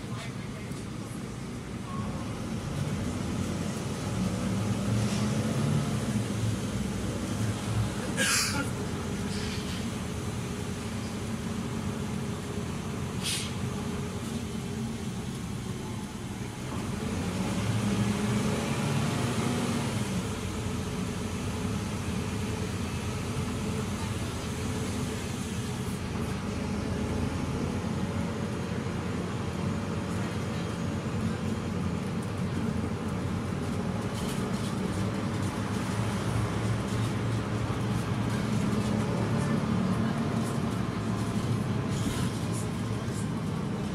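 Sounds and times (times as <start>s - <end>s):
bus engine running: 0.0s - 43.9s
road noise and rattle: 0.0s - 43.9s.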